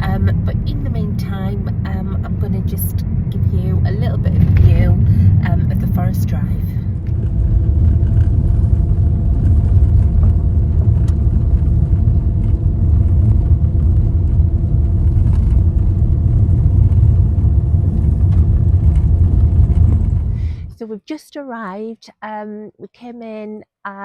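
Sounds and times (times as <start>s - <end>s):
car driving on road: 0.0s - 20.8s.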